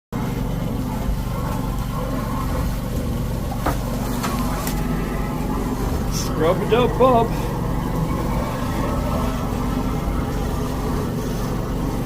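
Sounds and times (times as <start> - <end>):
machine engine droning: 0.2 - 12.0.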